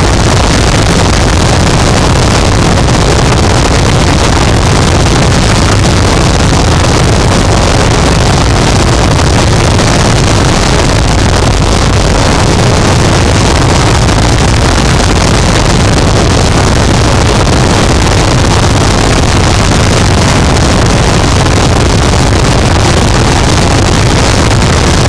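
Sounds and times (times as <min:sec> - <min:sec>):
dense distorted static: 0:00.0 - 0:25.0.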